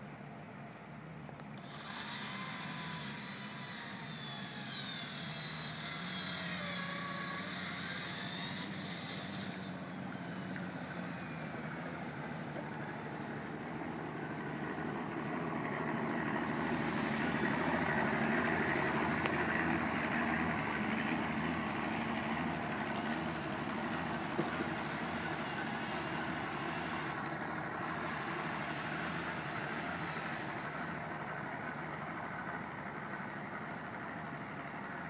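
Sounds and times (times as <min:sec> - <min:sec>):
outboard motor running: 0:00.0 - 0:35.0
propeller churning water: 0:00.0 - 0:35.0.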